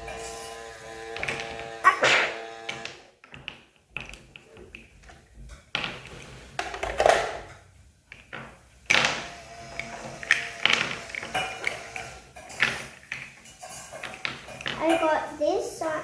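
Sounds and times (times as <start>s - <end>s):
plastic toy pieces clattering: 0.0s - 15.4s.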